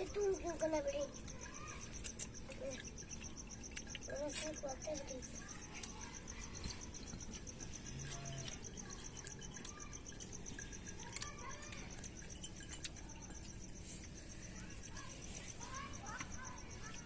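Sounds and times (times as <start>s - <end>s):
cricket chirping: 0.0s - 17.0s
low background hum: 0.0s - 17.0s.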